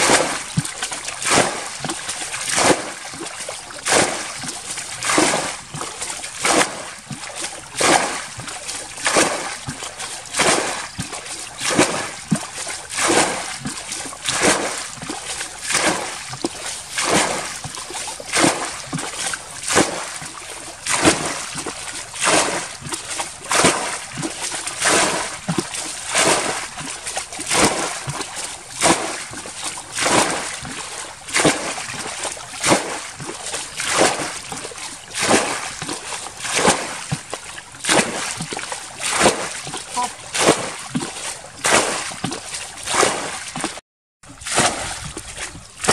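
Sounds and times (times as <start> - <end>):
bucket splashing water: 0.0 - 45.9.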